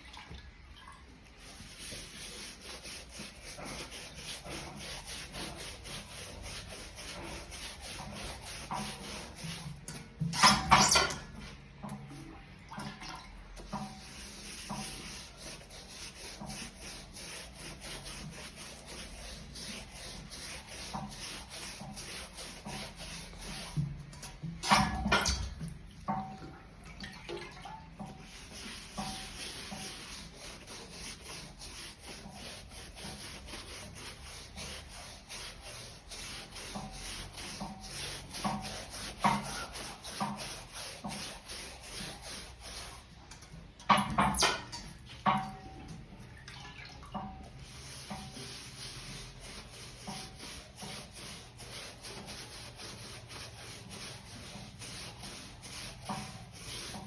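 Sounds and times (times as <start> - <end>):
brush scrubbing tyre: 1.4 - 12.4, 13.6 - 26.2, 28.0 - 45.2, 47.4 - 57.0.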